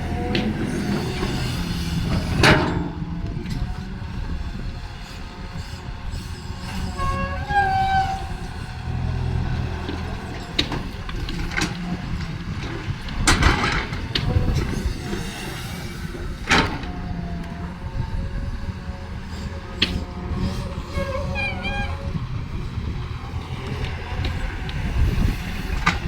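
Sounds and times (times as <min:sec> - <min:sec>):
excavator engine rumble: 0:00.0 - 0:26.0.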